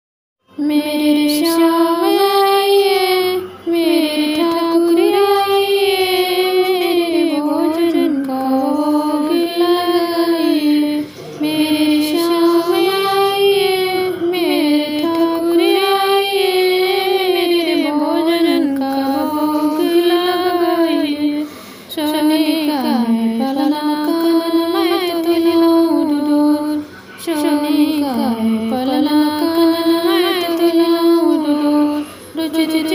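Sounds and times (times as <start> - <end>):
woman singing devotional song: 0.5 - 32.9.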